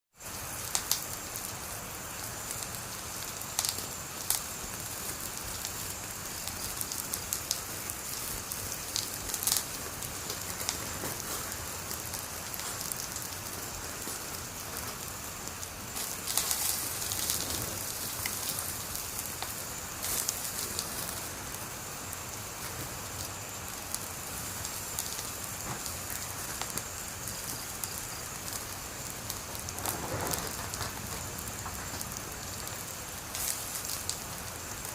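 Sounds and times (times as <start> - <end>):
fire crackles and pops: 0.1 - 34.9
wood fire hissing: 0.1 - 34.9.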